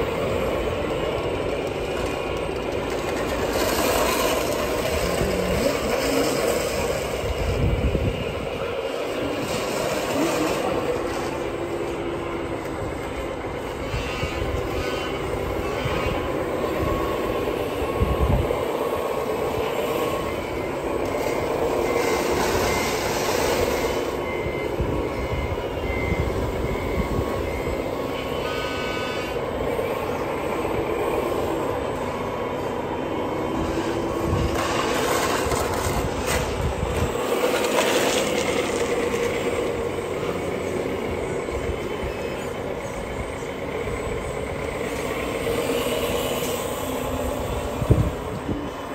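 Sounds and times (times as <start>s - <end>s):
model machines whirring: 0.0s - 48.9s.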